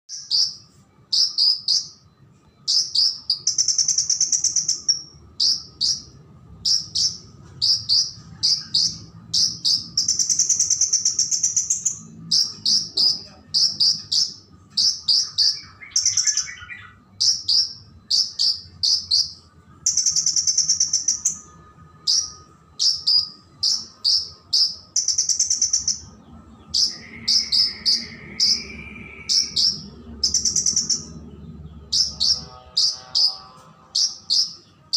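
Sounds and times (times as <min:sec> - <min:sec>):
bird buzzy trills: 0:00.1 - 0:34.9
bird singing high chirps: 0:00.1 - 0:34.9.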